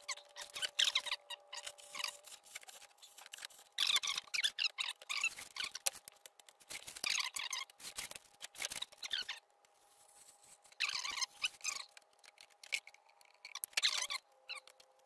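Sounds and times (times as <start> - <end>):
scratchy squeaking and scraping: 0.0 - 15.0.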